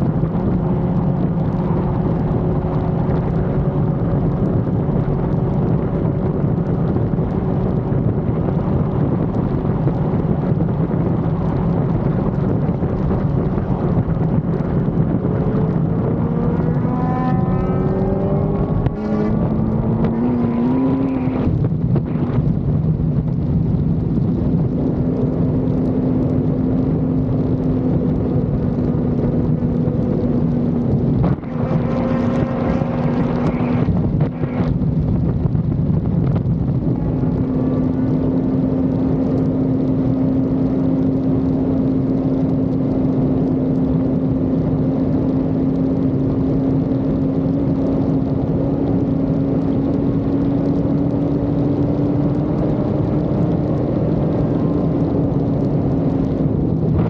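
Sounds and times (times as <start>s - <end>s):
motorcycle engine running at speed: 0.0s - 57.0s
wind rushing over microphone: 0.0s - 57.0s.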